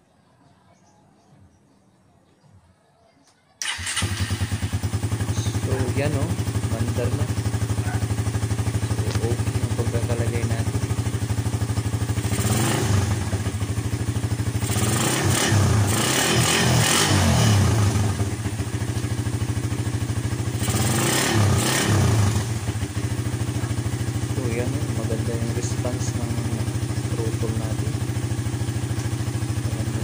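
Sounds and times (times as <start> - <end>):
motorcycle engine idling and revving: 3.6 - 30.0.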